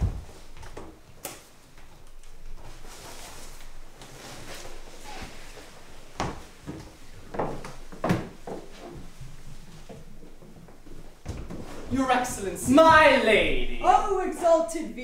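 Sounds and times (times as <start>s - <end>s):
rustling: 0.0s - 13.4s.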